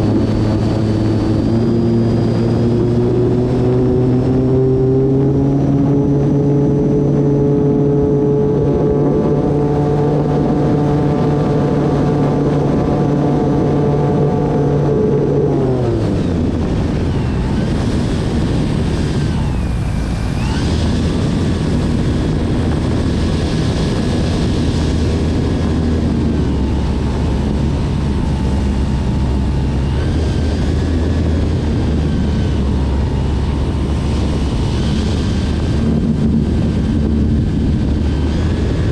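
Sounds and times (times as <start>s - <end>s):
electric motor and propeller whine: 0.0s - 38.9s
wind noise: 0.0s - 38.9s.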